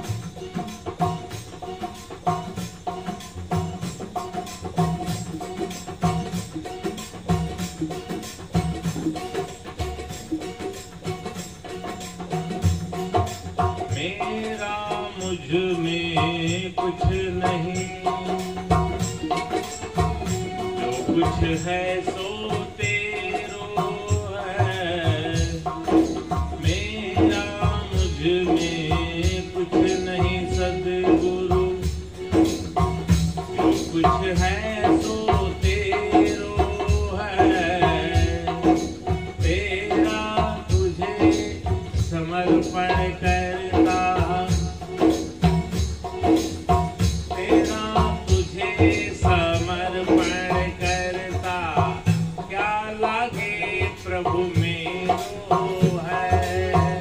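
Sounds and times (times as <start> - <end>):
hand drum beating: 0.0 - 57.0.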